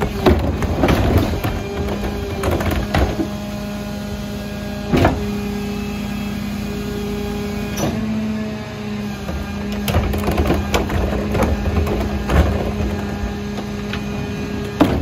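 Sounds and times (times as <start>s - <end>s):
hydraulic whine: 0.0s - 15.0s
truck engine running: 0.0s - 15.0s.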